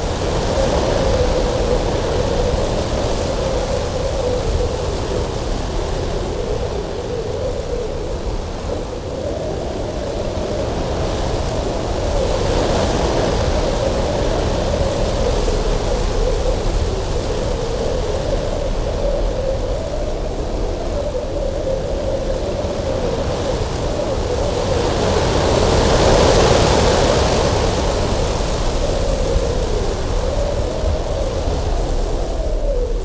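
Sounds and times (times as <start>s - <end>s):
strong wind whistling: 0.0s - 33.0s.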